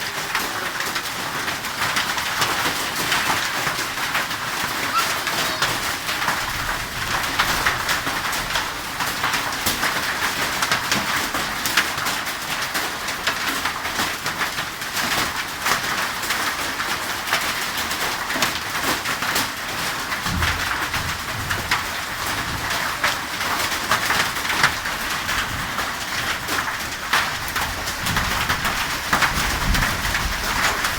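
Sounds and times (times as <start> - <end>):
hail and rain on hard surfaces: 0.0 - 30.9.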